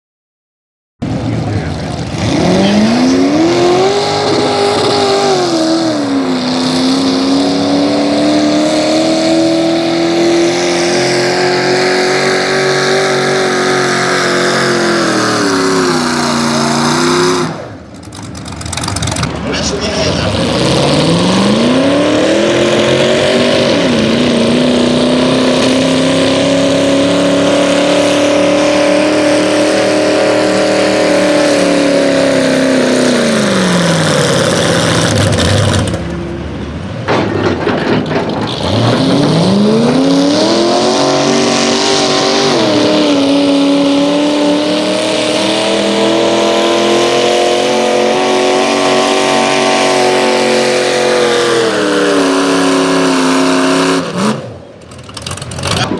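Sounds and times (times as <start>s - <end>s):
engine at full throttle: 1.0s - 55.9s.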